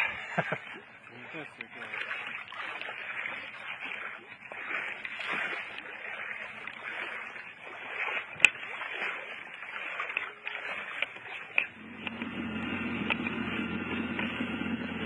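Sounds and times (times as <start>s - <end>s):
river water splashing: 0.0s - 15.0s.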